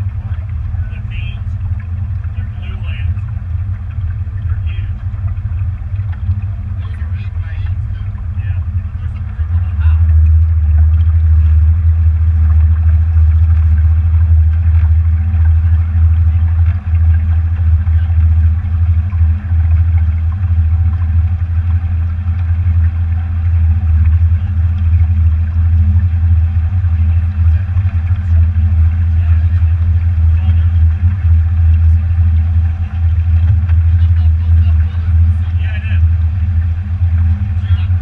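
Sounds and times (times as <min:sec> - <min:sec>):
motorboat engine rumble: 0:00.0 - 0:38.0
water rushing past hull: 0:00.0 - 0:38.0
wind: 0:00.0 - 0:38.0.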